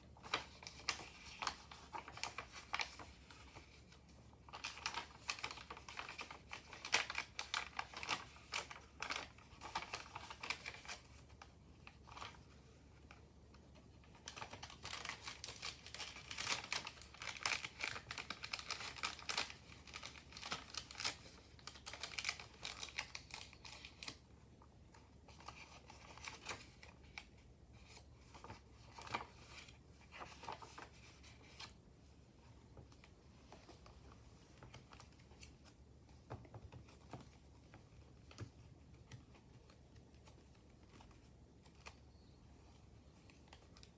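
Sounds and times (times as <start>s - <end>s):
paper pages rustling and crinkling: 0.0s - 24.2s, 24.9s - 43.9s.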